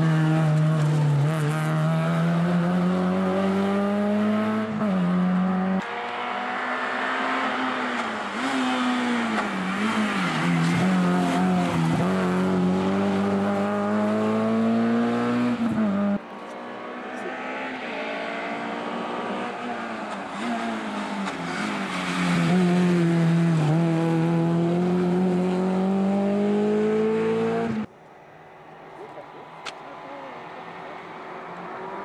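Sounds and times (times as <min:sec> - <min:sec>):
rally car accelerating hard: 0:00.0 - 0:16.2, 0:16.8 - 0:27.9
rally car engine at full throttle: 0:00.0 - 0:27.9.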